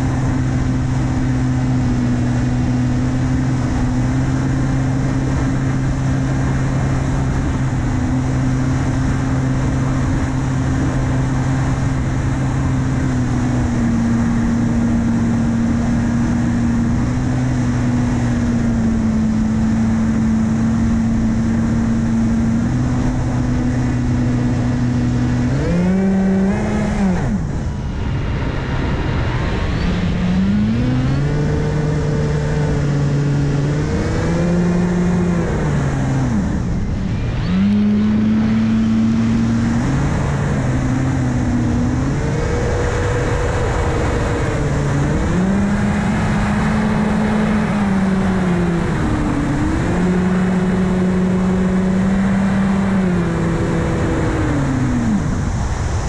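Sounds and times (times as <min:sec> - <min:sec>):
drone motors humming: 0:00.0 - 0:56.0
wind rush: 0:00.0 - 0:56.0.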